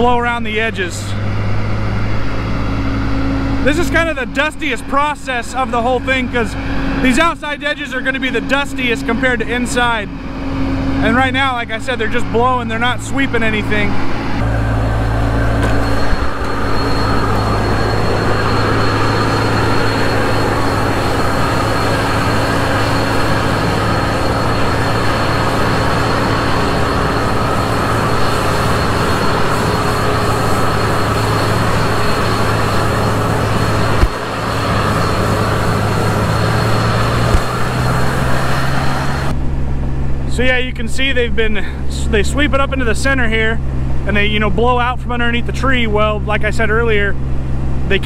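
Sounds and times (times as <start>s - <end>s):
faint high whine: 0.0s - 39.6s
blower fan air rush: 0.0s - 48.0s
engine drone: 0.0s - 48.0s.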